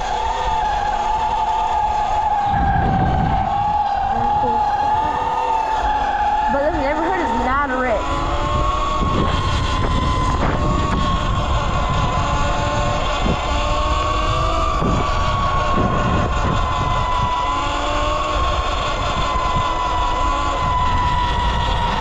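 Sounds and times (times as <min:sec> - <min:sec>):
electric motor whining: 0:00.0 - 0:22.0
wind on microphone: 0:00.0 - 0:22.0.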